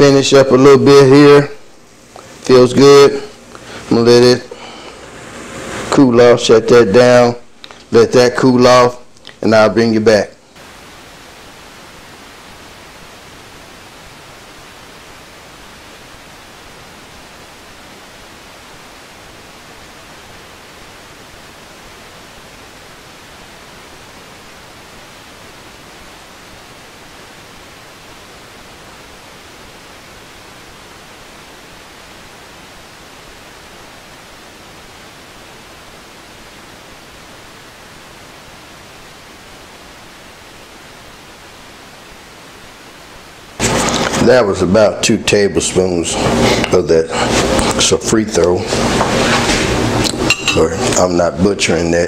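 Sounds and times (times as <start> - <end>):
steady hiss: 0.0 - 52.0.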